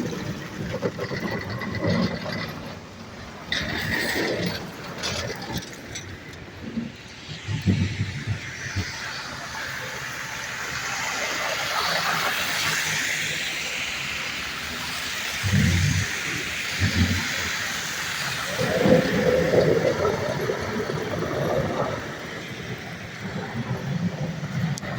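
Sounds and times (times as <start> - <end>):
hiss of passing vehicles: 3.0 - 24.9.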